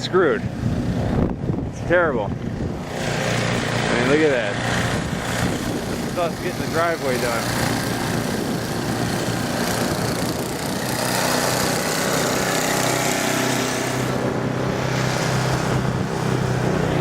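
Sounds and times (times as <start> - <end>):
snow blower engine running: 0.0 - 17.0.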